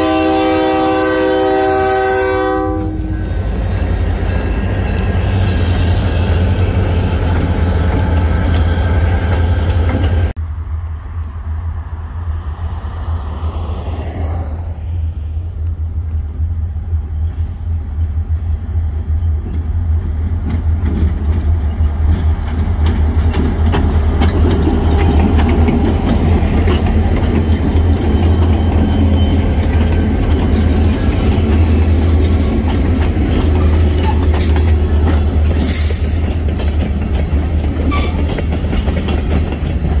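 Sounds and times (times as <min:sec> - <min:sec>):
diesel locomotive engines rumbling: 0:00.0 - 0:40.0.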